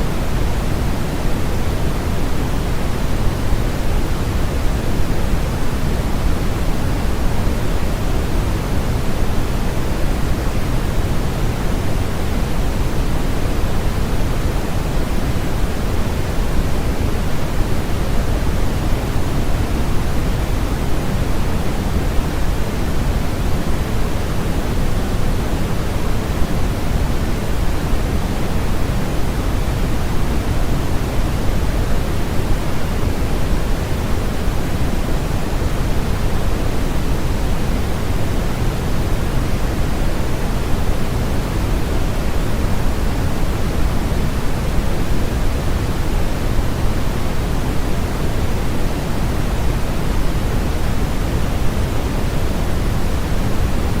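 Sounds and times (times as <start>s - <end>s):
steady pink noise: 0.0s - 54.0s.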